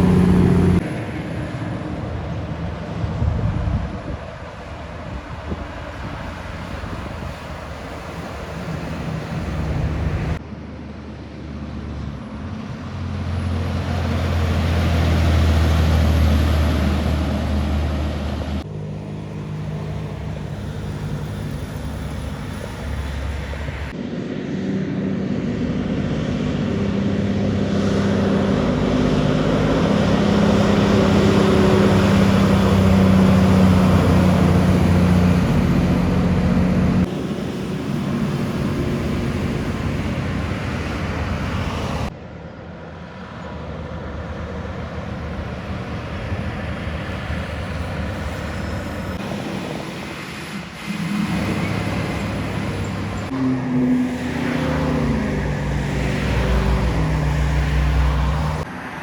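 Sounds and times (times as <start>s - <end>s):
tyre and road noise: 0.0s - 10.5s, 11.5s - 42.2s, 43.6s - 59.0s
heavy trucks passing: 0.0s - 42.2s, 42.8s - 59.0s.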